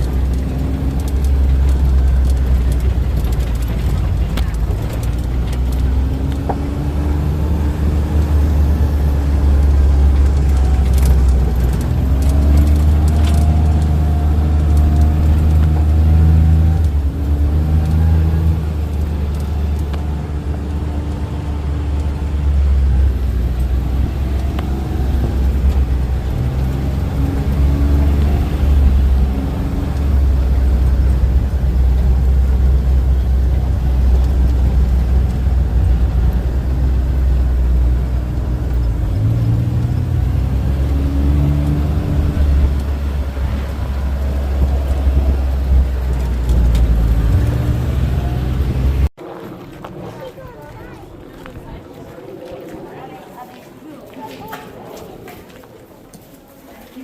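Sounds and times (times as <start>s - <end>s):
vehicle engine running: 0.0s - 52.8s.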